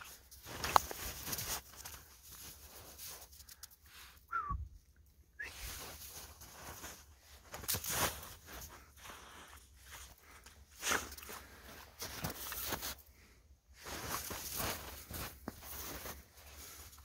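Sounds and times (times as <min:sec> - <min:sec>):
paws crunching in snow: 0:00.0 - 0:04.1, 0:05.5 - 0:17.0.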